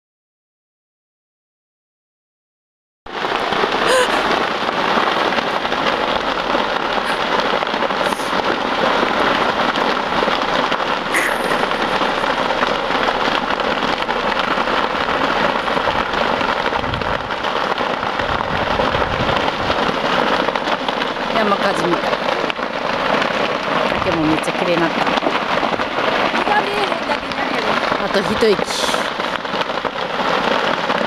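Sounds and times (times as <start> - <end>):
brush fire crackling: 3.1 - 31.0
fire popping: 3.1 - 31.0.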